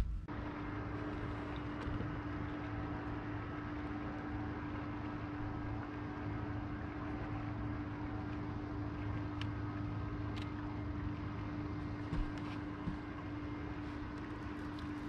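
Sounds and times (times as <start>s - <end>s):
electric trolling motor humming: 0.0s - 15.0s.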